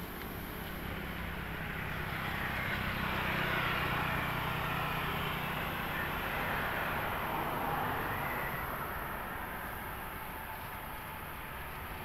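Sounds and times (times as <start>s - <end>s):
vehicle tyres and engine on asphalt: 0.0s - 12.0s.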